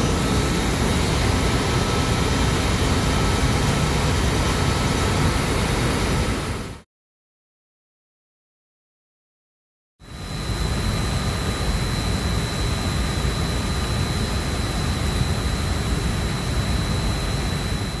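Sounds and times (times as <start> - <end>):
blower fans rushing air: 0.0 - 6.8, 10.1 - 18.0
thin high whine: 0.0 - 6.8, 10.0 - 18.0.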